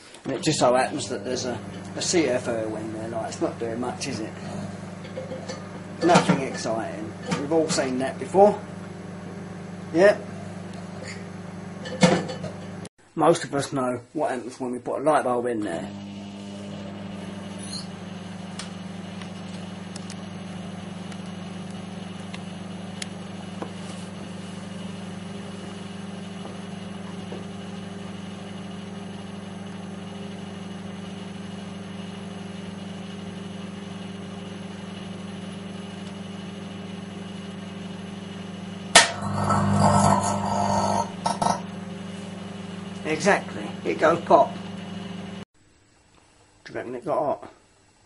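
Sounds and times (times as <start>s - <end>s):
microwave oven humming: 0.2s - 12.9s, 15.6s - 45.5s.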